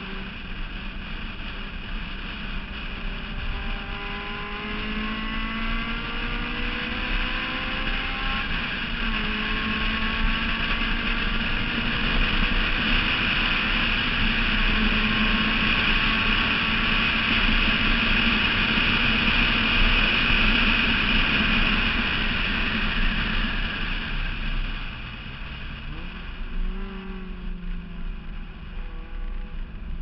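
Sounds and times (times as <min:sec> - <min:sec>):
car engine at high revs: 0:00.0 - 0:30.0
wind and road noise: 0:00.0 - 0:30.0.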